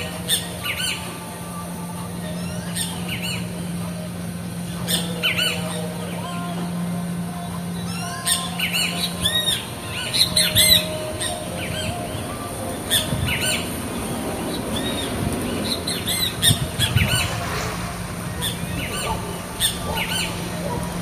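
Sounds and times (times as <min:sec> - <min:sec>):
flock of birds calling: 0:00.0 - 0:21.0
steady low hum: 0:00.0 - 0:21.0.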